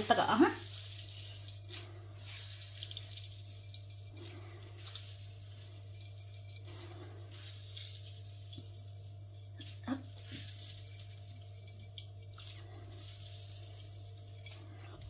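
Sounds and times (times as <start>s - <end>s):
juice dripping onto ceramic plate: 0.6s - 15.0s.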